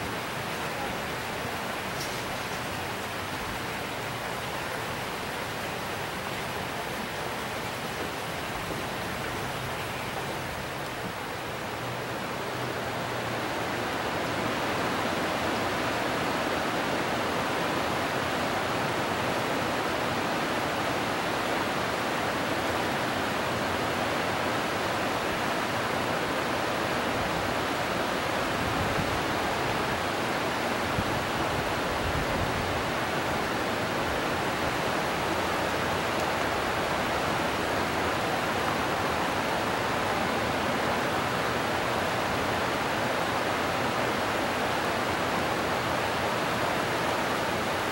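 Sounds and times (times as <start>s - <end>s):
river rushing over rocks: 0.0s - 47.9s.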